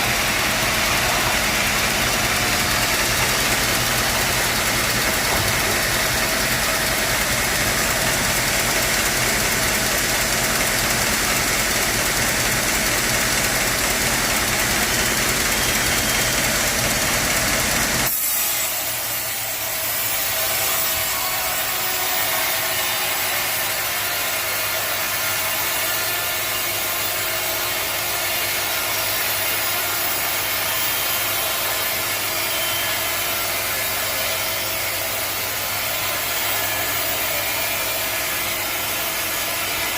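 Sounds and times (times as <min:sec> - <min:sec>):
sawmill machinery sawing timber: 0:00.0 - 0:39.9.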